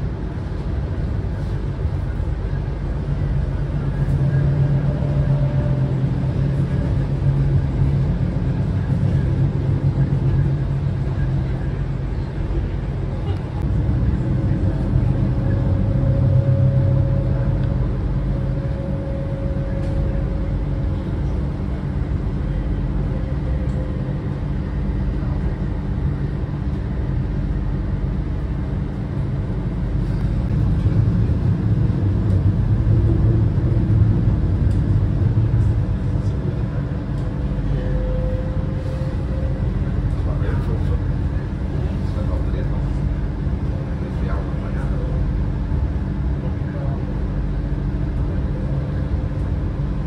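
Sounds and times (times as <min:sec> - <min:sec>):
faint steady whine: 0:00.0 - 0:50.0
tram rumbling on tracks: 0:00.0 - 0:50.0.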